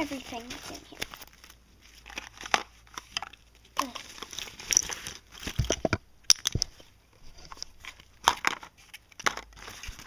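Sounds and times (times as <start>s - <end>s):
rustling of toys being packed: 0.0s - 10.0s.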